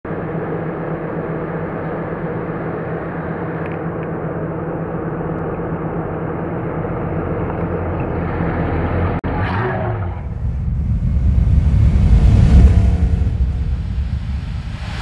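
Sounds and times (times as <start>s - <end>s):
car engine running at low revs: 0.1s - 15.0s.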